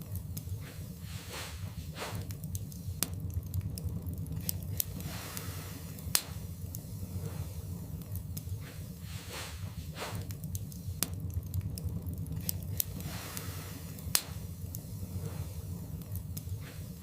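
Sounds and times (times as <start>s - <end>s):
low rumble: 0.0s - 17.0s
wood fire crackling and popping: 0.0s - 17.0s.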